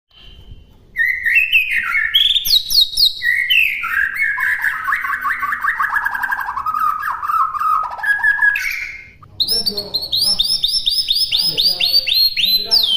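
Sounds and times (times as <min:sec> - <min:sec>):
bird singing whistles and trills: 0:00.1 - 0:12.9.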